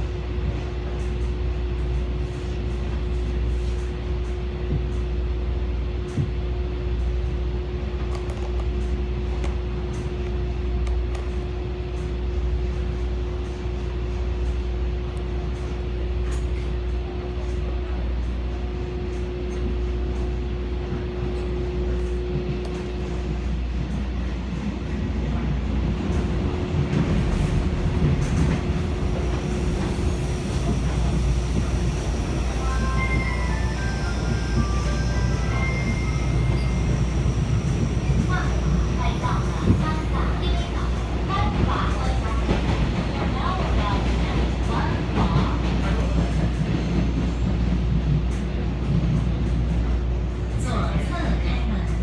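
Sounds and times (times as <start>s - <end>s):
train arriving: 0.0s - 52.0s.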